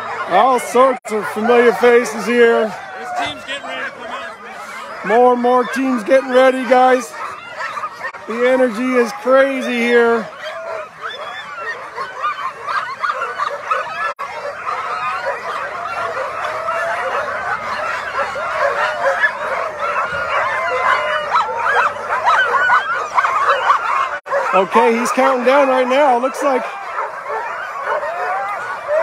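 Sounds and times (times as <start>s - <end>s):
sled dogs barking and howling: 0.0s - 29.0s.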